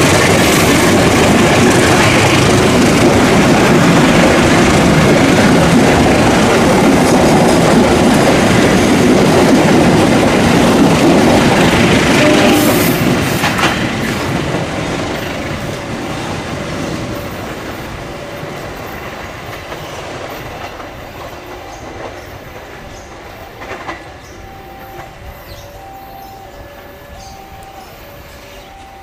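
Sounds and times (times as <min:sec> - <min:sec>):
train wheels clattering: 0:00.0 - 0:29.0.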